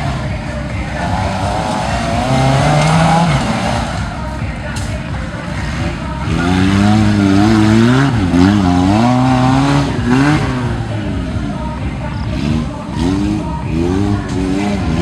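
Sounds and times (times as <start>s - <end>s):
constant background noise: 0.0s - 15.0s
off-road vehicle engine revving: 0.0s - 15.0s.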